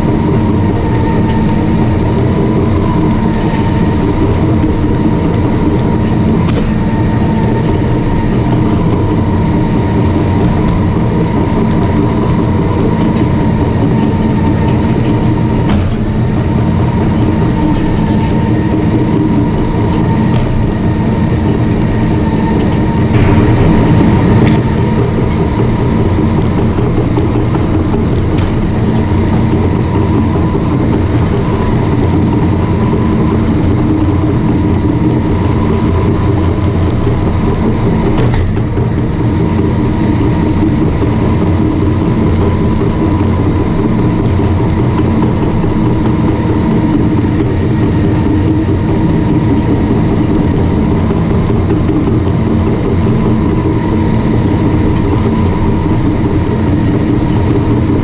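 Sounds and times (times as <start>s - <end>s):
steel tracks clanking: 0.0s - 50.3s
bulldozer diesel engine: 0.0s - 58.0s
engine whine: 0.0s - 58.0s.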